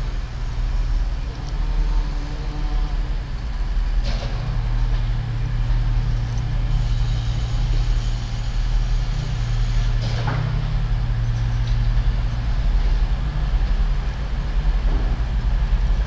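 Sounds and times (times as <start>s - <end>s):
train diesel engines droning: 0.0s - 16.0s.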